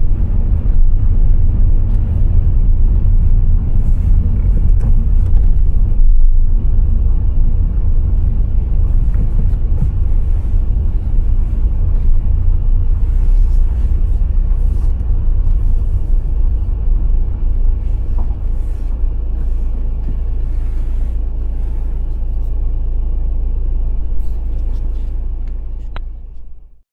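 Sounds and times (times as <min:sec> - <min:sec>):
car driving on road: 0:00.0 - 0:26.8.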